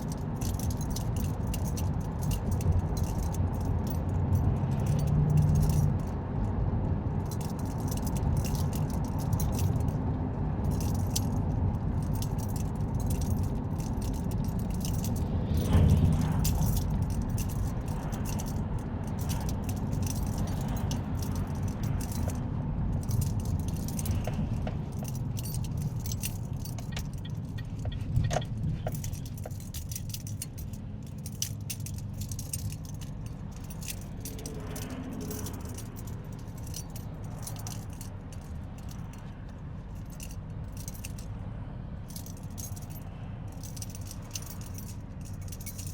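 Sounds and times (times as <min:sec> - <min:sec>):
small clicks and rattles: 0:00.0 - 0:06.2, 0:10.7 - 0:22.4, 0:23.0 - 0:41.3, 0:43.6 - 0:45.9
car road and engine rumble: 0:00.0 - 0:45.9.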